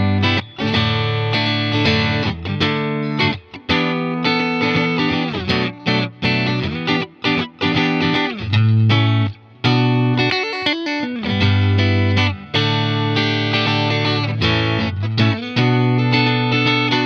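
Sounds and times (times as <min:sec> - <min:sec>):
overdriven electric guitar chords: 0:00.0 - 0:17.0.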